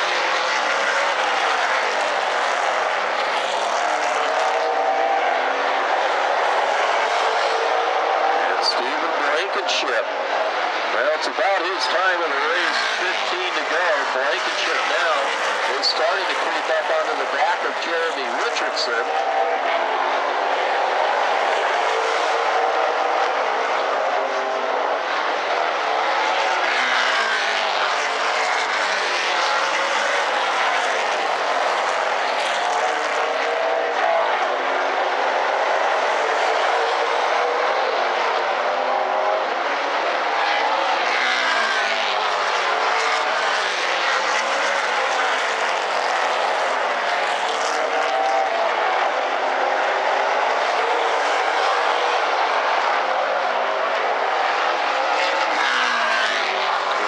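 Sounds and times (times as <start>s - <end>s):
race car engines lapping: 0.0s - 57.0s.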